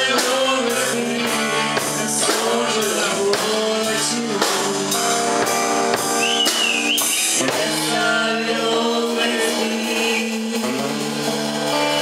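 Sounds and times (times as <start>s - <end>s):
drum kit strikes: 0.0s - 12.0s.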